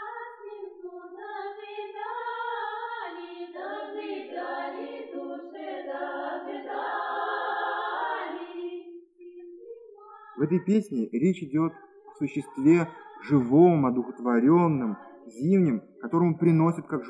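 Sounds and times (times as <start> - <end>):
chorus singing: 0.0 - 17.0.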